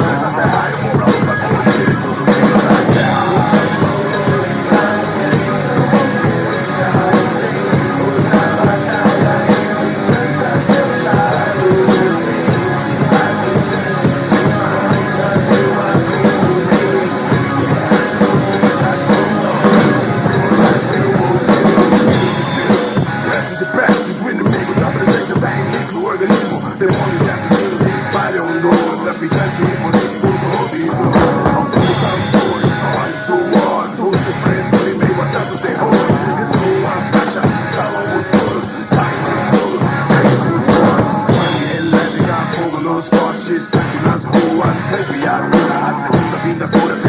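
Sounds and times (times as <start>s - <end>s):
drum kit playing: 0.0s - 47.0s
rock backing track: 0.0s - 47.0s.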